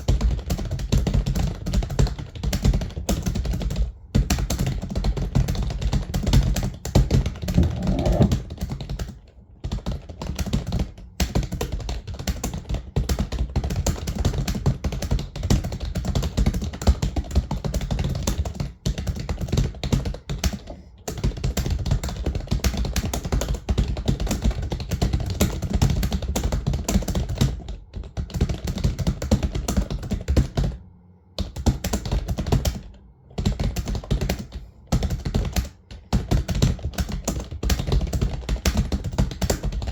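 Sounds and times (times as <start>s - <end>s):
keyboard typing rapidly: 0.0s - 30.8s, 31.4s - 39.9s.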